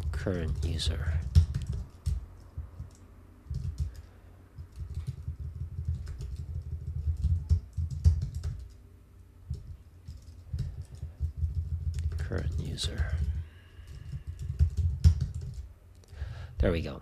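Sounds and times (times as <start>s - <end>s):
keyboard typing clicks: 0.5s - 8.8s, 9.5s - 15.6s.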